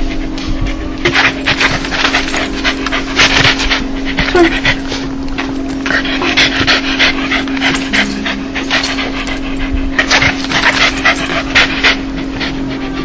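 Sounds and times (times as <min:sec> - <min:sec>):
dog panting: 0:00.0 - 0:13.0
low hum: 0:00.0 - 0:13.0.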